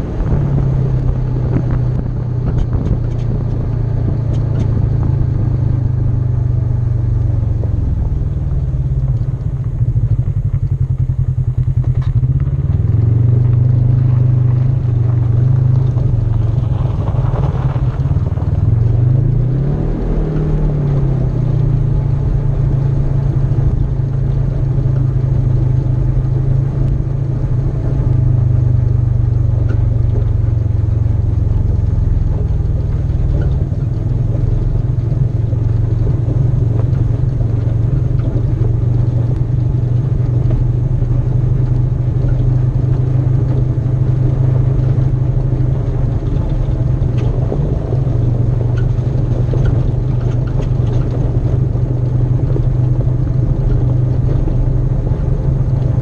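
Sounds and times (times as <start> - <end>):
tires on gravel: 0.0 - 56.0
vehicle engine running: 0.0 - 56.0.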